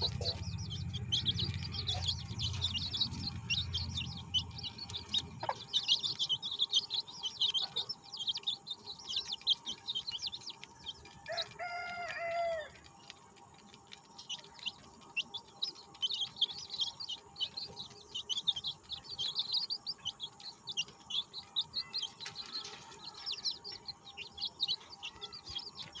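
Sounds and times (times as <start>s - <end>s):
chicks chirping: 0.0s - 26.0s.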